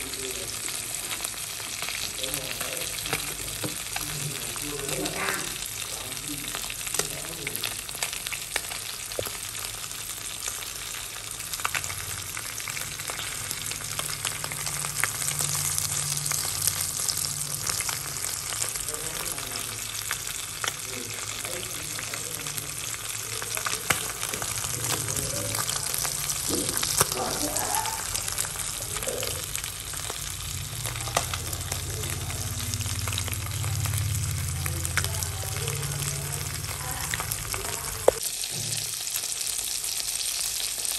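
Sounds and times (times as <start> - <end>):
fish sizzling in hot oil: 0.0 - 40.9.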